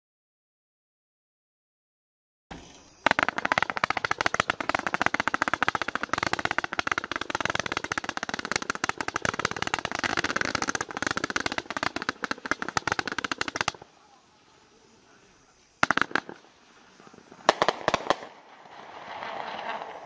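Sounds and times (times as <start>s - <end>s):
firework cake launch pops: 2.5s - 20.0s.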